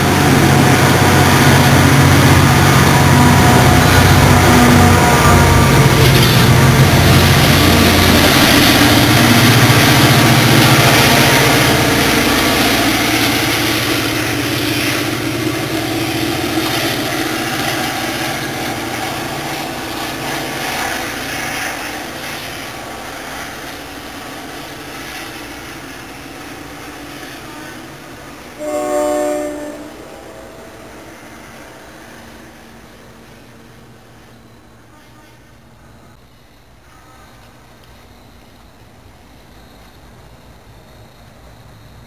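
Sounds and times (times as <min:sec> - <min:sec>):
locomotive engine: 0:00.0 - 0:36.7
train cars rumbling: 0:00.0 - 0:42.0.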